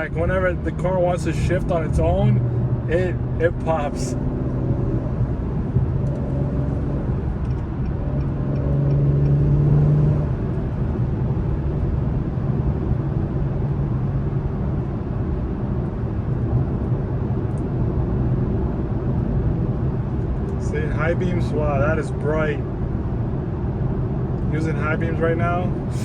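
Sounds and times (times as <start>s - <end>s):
car engine in cabin: 0.0s - 26.0s
road noise: 0.0s - 26.0s.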